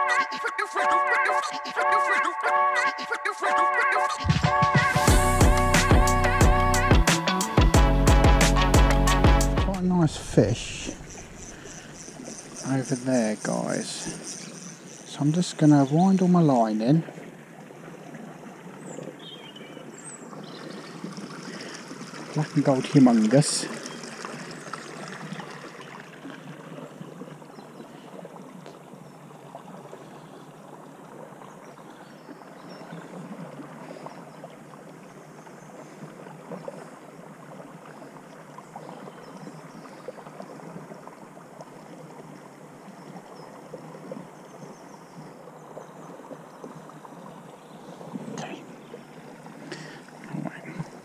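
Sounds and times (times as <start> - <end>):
stream water running: 4.2 - 51.0.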